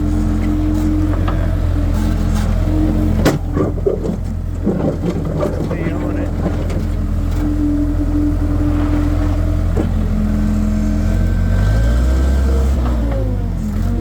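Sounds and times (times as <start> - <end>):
skid steer engine running hard: 0.0 - 14.0.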